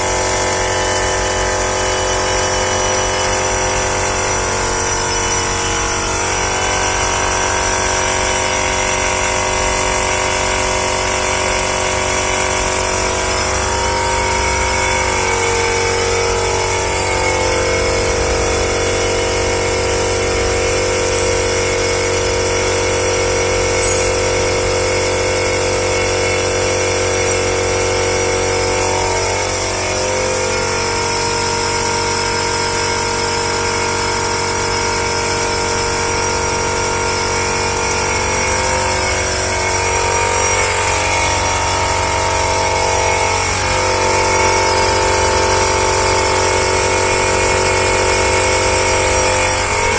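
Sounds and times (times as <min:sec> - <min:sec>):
packaging machine motor hum: 0:00.0 - 0:49.9.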